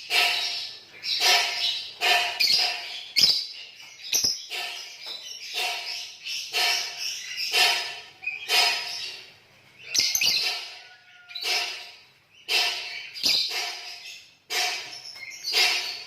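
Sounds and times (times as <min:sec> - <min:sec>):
lovebird chattering chirps: 0:00.0 - 0:16.0.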